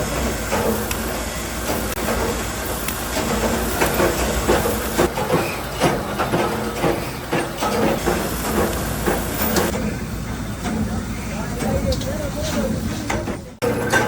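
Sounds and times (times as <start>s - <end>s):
workshop machinery hiss: 0.0s - 14.0s.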